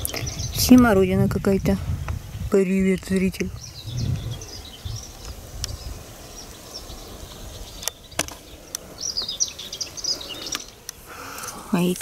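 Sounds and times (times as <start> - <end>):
small birds singing: 0.0 - 12.0.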